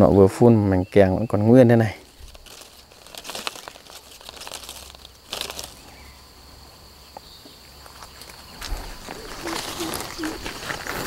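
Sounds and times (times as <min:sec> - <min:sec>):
leaves and twigs rustling: 0:01.1 - 0:11.0.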